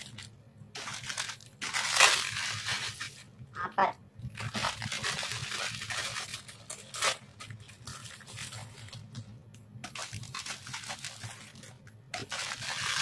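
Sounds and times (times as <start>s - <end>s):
plastic packet crinkling and tearing: 0.0s - 3.3s, 4.2s - 13.0s.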